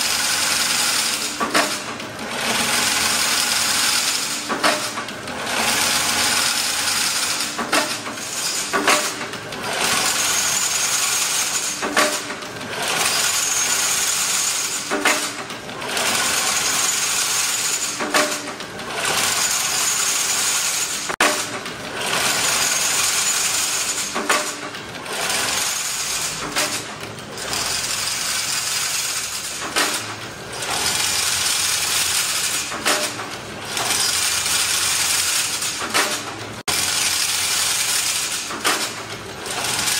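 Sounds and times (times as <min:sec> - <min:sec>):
fence weaving machine clattering: 0:00.0 - 0:39.9
sharp machine clacks: 0:00.0 - 0:39.9.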